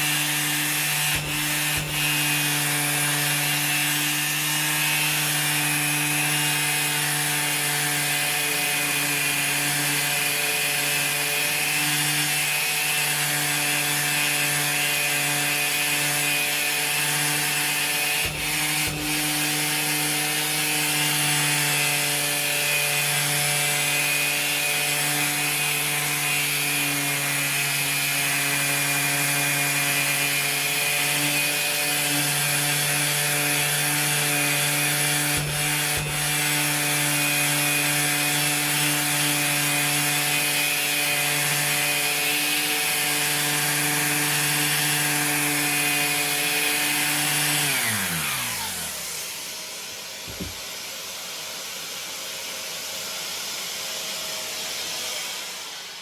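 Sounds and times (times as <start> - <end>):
orbital sander hissing on metal: 0.0 - 56.0.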